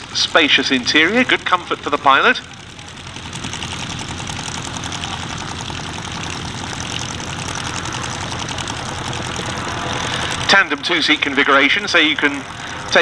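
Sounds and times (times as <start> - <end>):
autogyro engine and propeller: 0.0 - 13.0.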